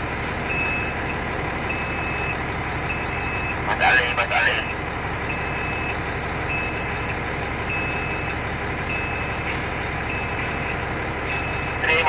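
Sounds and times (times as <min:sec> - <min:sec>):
electronic alarm beeping: 0:00.5 - 0:12.0.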